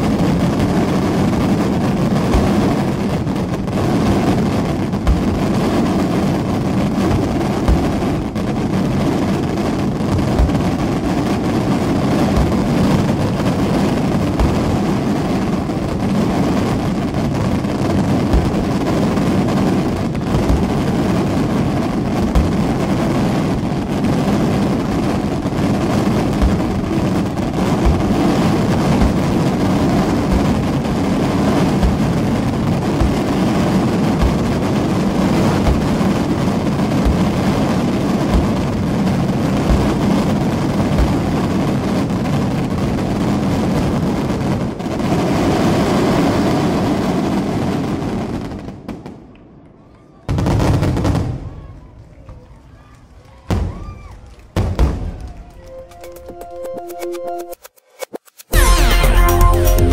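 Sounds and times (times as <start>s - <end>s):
heavy firework booms: 0.0s - 49.2s, 50.3s - 51.8s, 53.5s - 55.4s
rapid firework explosions: 0.0s - 49.3s, 50.3s - 59.9s.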